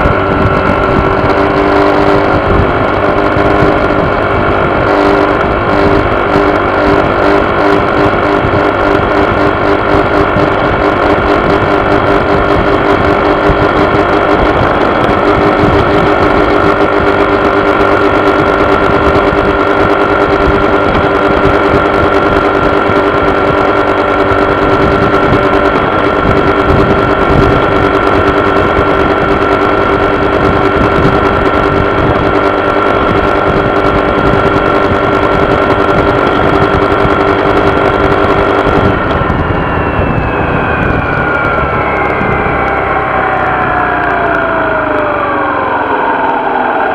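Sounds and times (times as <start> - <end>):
scooter engine running: 0.0 - 46.9
constant high tone: 6.8 - 46.9.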